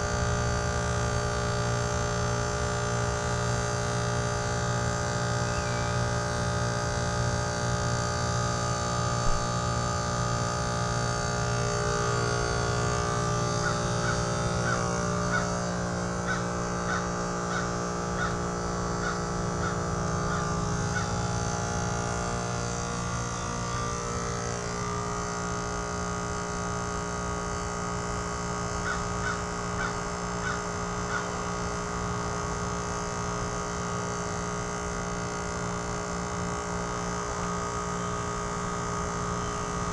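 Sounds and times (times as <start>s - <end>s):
heat pump compressor humming: 0.0s - 39.9s.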